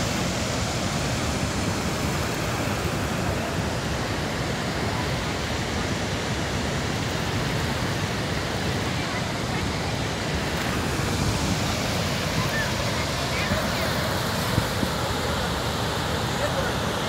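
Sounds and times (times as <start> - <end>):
waterfall and river rushing: 0.0 - 17.0.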